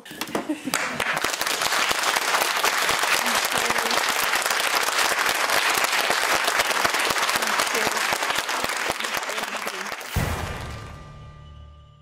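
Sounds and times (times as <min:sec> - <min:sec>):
crowd applauding: 0:00.2 - 0:10.9.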